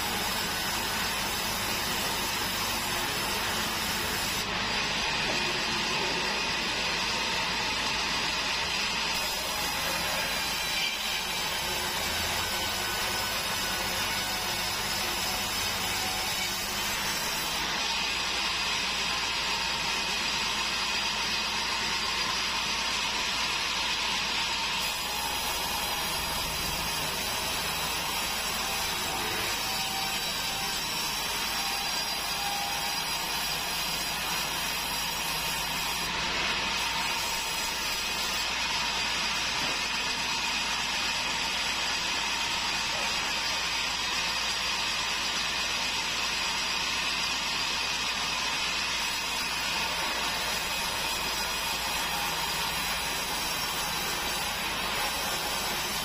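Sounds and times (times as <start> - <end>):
bandsaw cutting log: 0.0 - 56.0.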